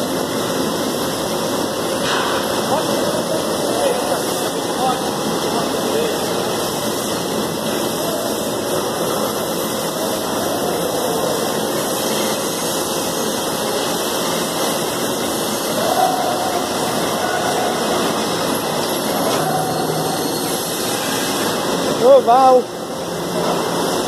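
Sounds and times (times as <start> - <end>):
plant machinery running: 0.0 - 24.0.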